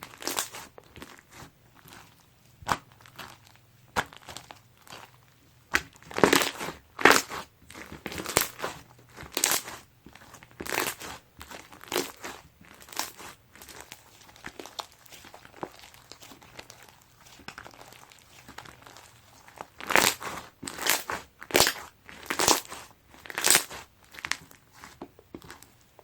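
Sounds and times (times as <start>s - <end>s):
crunchy slime squeezed by hand: 0.0s - 25.8s.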